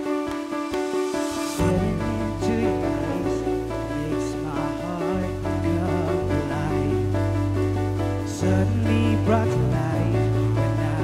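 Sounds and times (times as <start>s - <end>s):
sustained chords: 0.8s - 11.0s
steady bass: 1.5s - 11.0s.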